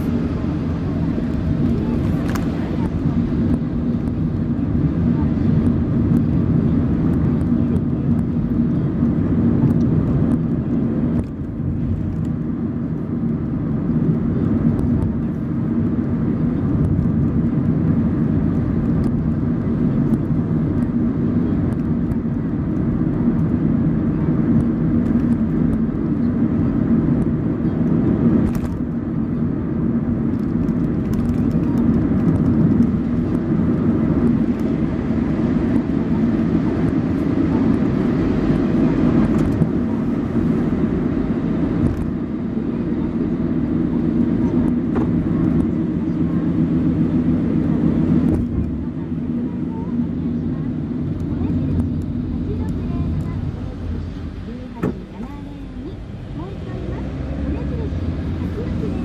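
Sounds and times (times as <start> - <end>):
car engine and road noise hum: 0.0 - 59.0.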